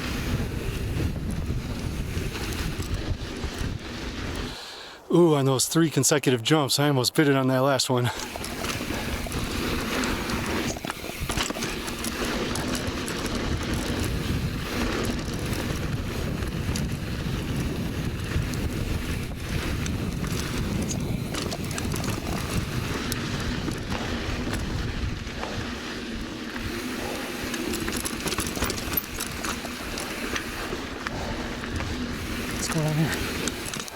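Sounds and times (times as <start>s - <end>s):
bike rattling: 0.0s - 4.7s, 8.0s - 33.9s
wind rumbling on microphone: 0.0s - 4.7s, 8.2s - 33.9s
bike tyres on loose dirt: 0.0s - 6.0s, 7.2s - 33.9s.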